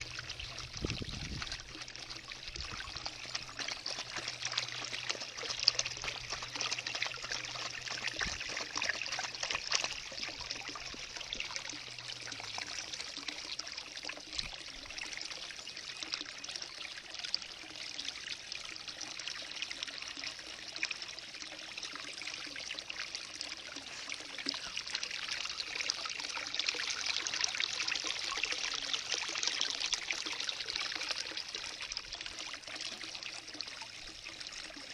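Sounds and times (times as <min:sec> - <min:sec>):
low steady hum: 0:00.0 - 0:34.9
water running and trickling: 0:00.0 - 0:34.9.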